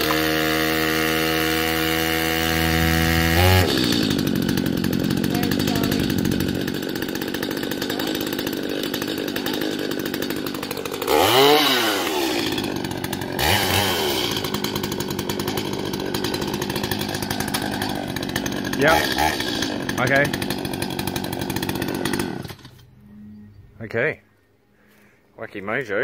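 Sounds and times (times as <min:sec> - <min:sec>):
chainsaw idling and revving: 0:00.0 - 0:22.9.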